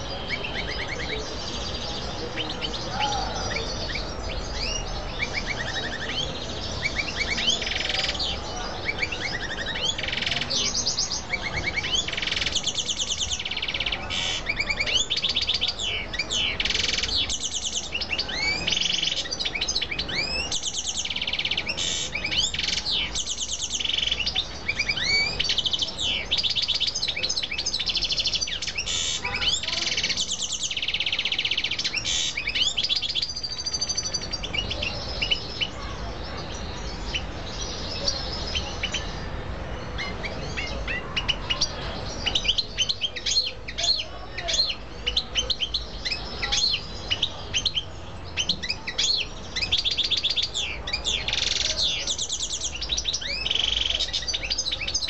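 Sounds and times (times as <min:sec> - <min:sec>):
small finches singing and chirping: 0:00.0 - 0:55.0.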